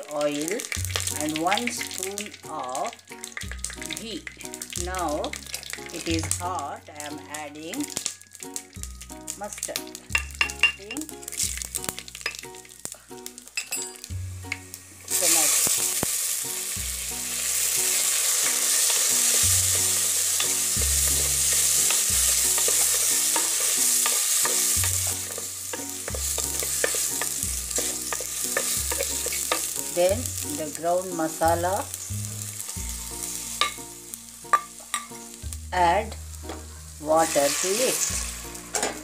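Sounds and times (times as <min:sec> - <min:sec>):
loud sizzle: 0:00.0 - 0:39.0
mustard seeds crackling and popping: 0:00.0 - 0:39.0.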